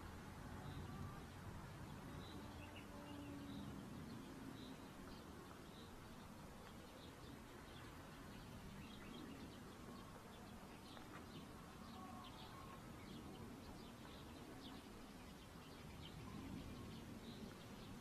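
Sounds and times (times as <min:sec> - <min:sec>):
low steady hum: 0:00.0 - 0:18.0
faint bird chirps: 0:02.0 - 0:18.0.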